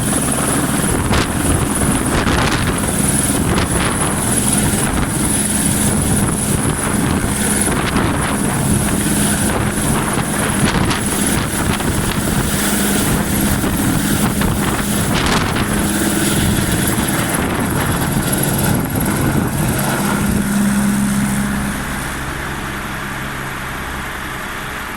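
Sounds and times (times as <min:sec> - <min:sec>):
helicopter rotor and engine: 0:00.0 - 0:24.9.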